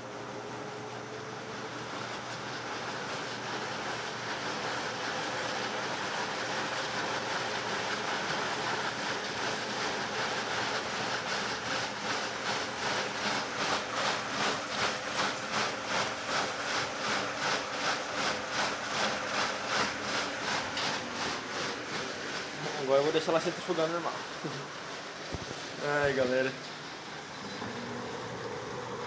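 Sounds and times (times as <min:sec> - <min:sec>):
washing machine water sloshing: 0:00.0 - 0:29.0.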